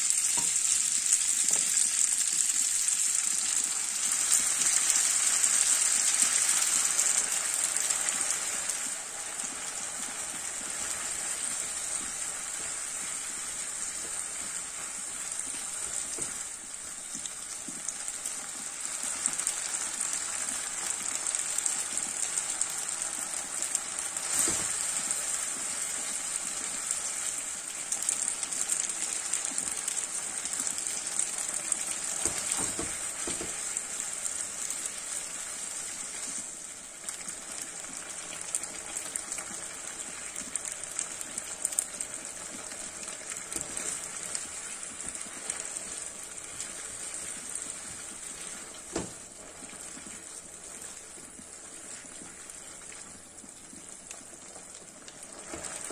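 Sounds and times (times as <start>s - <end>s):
pasta sizzling in a frying pan: 0.0s - 55.9s.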